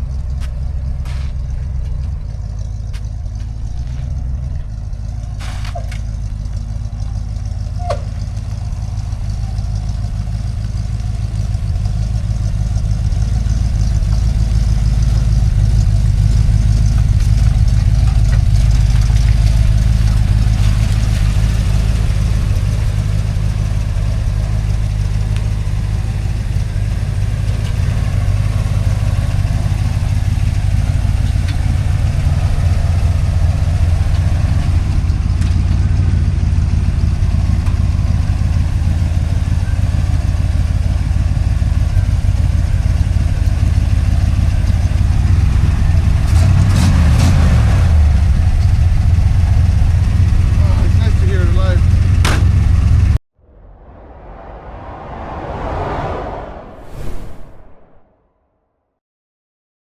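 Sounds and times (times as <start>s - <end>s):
pickup engine idling: 0.0s - 53.2s.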